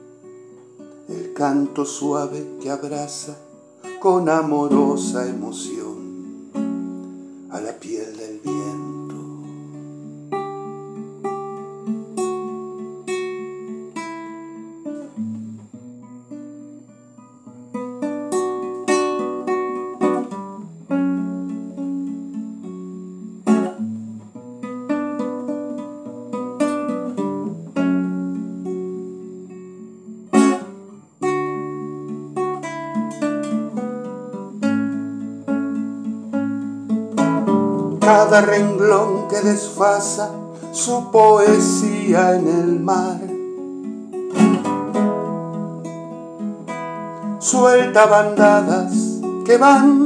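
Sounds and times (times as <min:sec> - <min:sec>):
acoustic guitar playing: 0:00.0 - 0:50.0.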